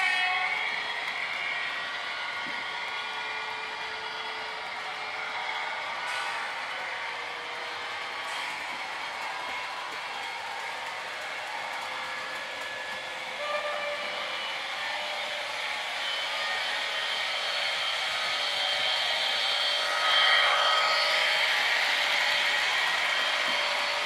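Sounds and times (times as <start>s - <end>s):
model train whining and rolling: 0.0s - 24.0s.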